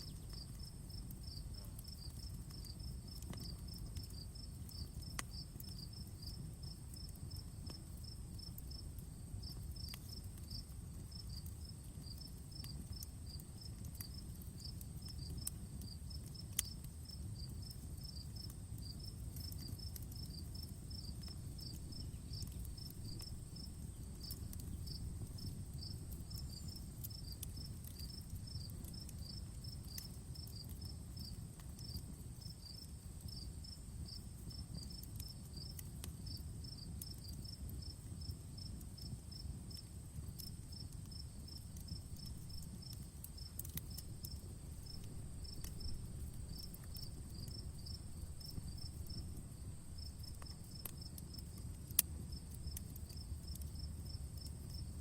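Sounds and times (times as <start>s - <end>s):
campfire crackling and popping: 0.0s - 55.0s
crickets chirping: 0.0s - 55.0s
low continuous rumble: 0.0s - 55.0s.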